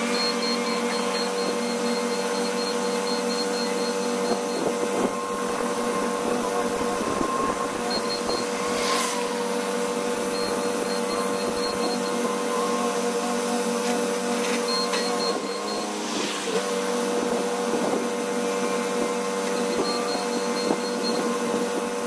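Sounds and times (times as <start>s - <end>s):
diesel engine running with whine: 0.0s - 22.0s.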